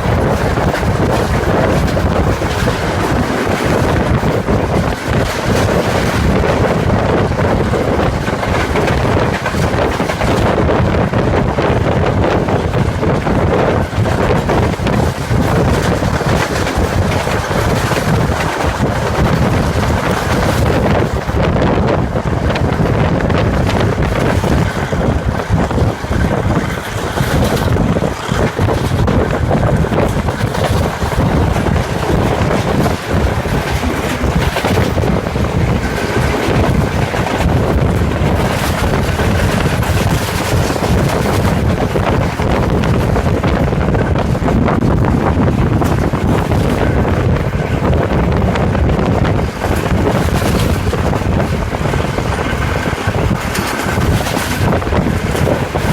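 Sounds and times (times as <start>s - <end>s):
train rumbling: 0.0s - 55.9s
wind buffeting microphone: 0.0s - 55.9s.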